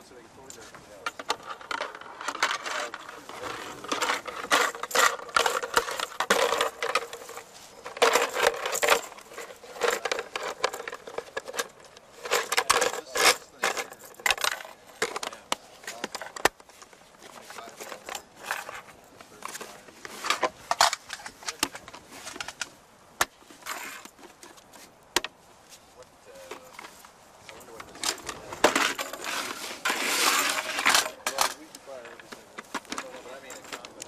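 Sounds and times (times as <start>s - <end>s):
ammunition belt clinking: 0.5s - 25.4s, 26.3s - 34.0s.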